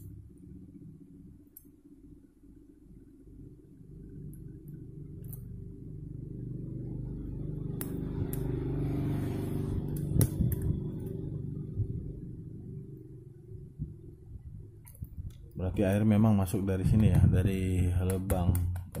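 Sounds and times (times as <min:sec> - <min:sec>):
low engine-like rumble: 0:00.0 - 0:18.7.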